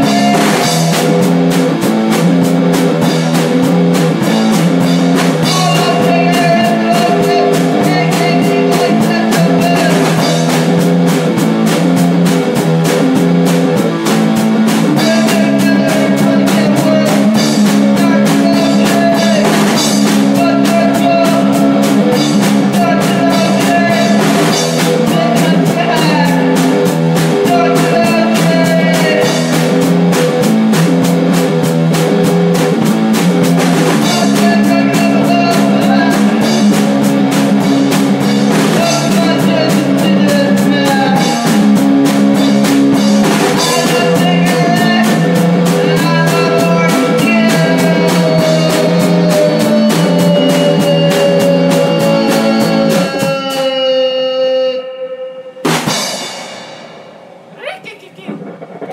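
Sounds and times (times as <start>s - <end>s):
fast drumming: 0.0s - 53.7s, 57.6s - 58.9s
distorted electric guitar chords: 0.0s - 56.4s.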